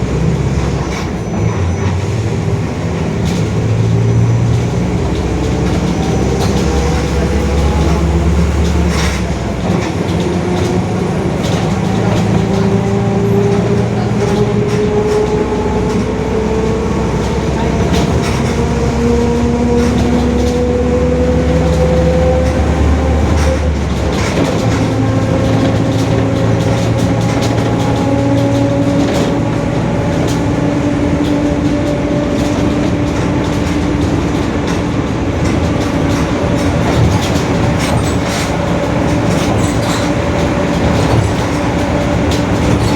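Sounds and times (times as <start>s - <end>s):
bus gear whine rising: 0.0s - 42.9s
diesel engine drone: 0.0s - 42.9s.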